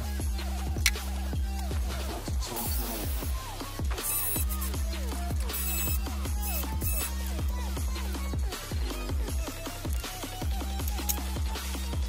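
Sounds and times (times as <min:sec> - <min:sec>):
steady bass: 0:00.0 - 0:12.0.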